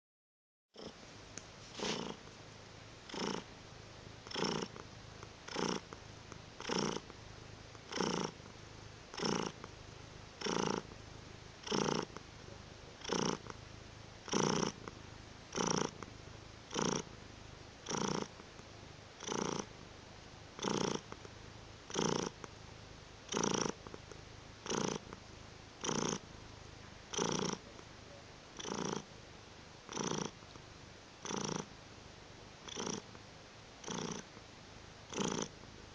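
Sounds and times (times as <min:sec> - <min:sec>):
cat purring: 0:00.8 - 0:29.2, 0:29.8 - 0:31.8, 0:32.4 - 0:35.9.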